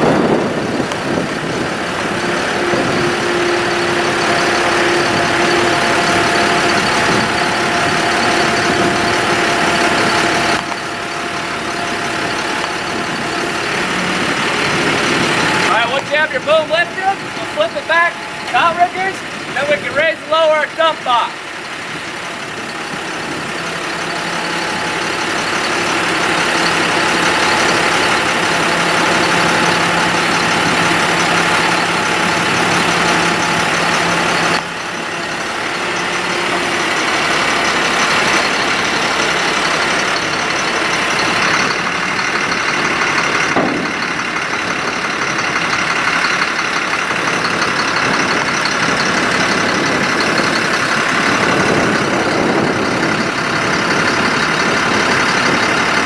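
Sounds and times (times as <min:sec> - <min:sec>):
hydraulics working dump box: 0:00.0 - 0:56.0
truck engine running: 0:00.0 - 0:56.0.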